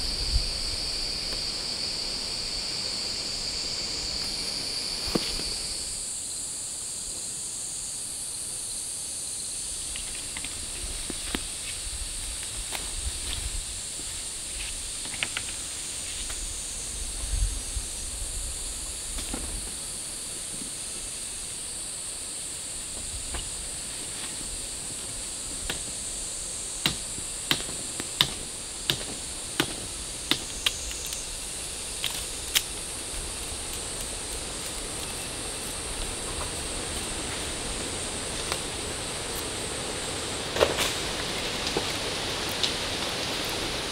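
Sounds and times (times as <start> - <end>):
high-pitched insect drone: 0.0 - 43.9.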